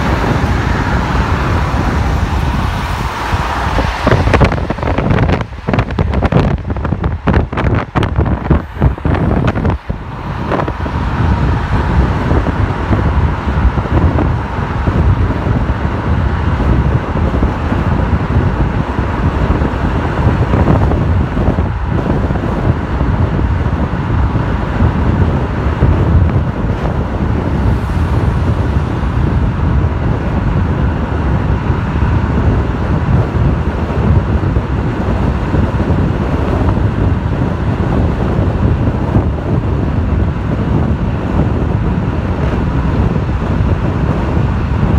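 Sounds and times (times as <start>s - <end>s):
car road noise: 0.0s - 44.9s
wind rushing over microphone: 0.0s - 44.9s.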